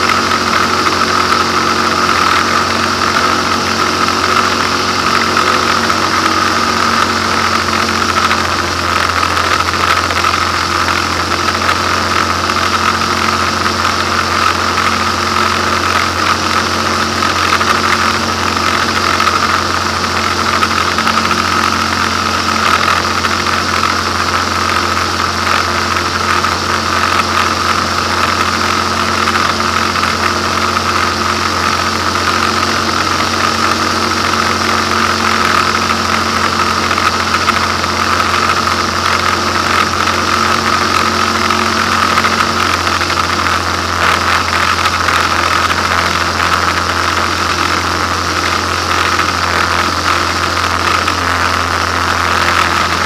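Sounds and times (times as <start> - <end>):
light aircraft engine drone: 0.0 - 53.0.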